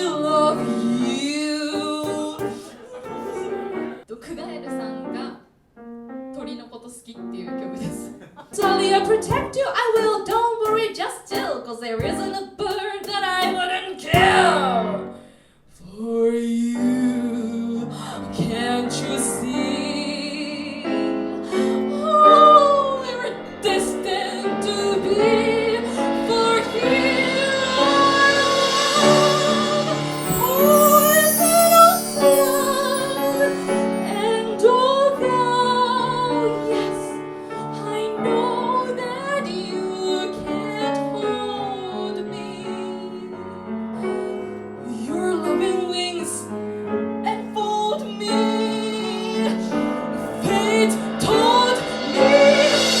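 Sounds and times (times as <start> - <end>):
woman singing with vibrato: 0.0 - 3.0, 7.9 - 15.1, 15.8 - 43.5, 47.3 - 53.0
piano accompaniment: 0.0 - 15.3, 16.7 - 53.0.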